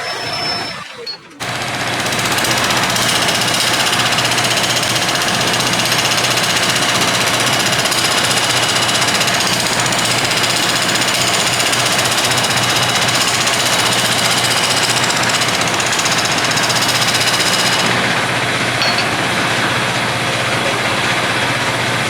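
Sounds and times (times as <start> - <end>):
wood lathe tool chattering: 1.4 - 21.9.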